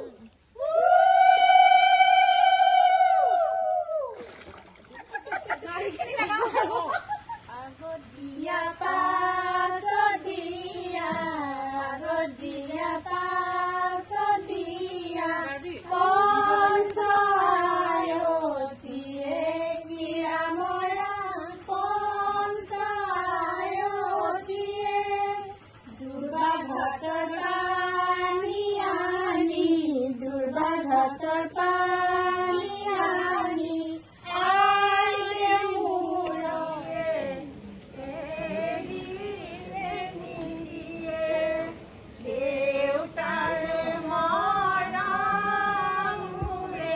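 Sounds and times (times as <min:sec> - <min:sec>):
person singing unaccompanied: 0:06.2 - 0:46.9.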